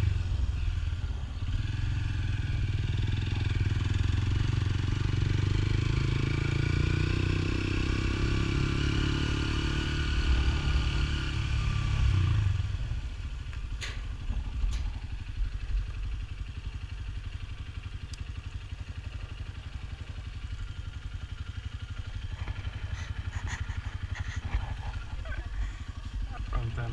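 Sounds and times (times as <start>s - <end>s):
motorcycle engine running: 0.0s - 26.9s
road and wind noise: 0.0s - 26.9s.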